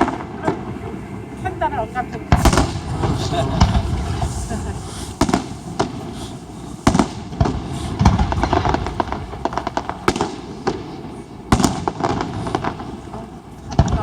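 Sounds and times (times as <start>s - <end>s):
fireworks crackling: 0.0s - 14.0s
fireworks bangs: 2.2s - 14.0s
fireworks booms: 2.3s - 14.0s.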